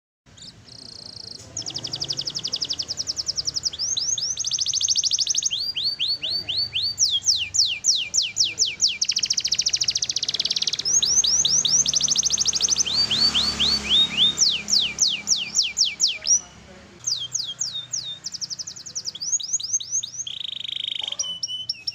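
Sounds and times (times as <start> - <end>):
canary singing: 0.3 - 21.9.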